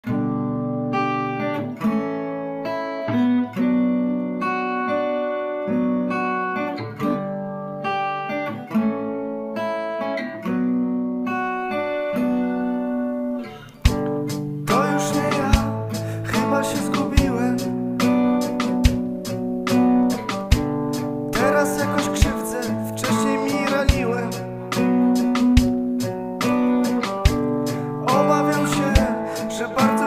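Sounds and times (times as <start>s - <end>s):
acoustic guitar chords: 0.0s - 30.0s.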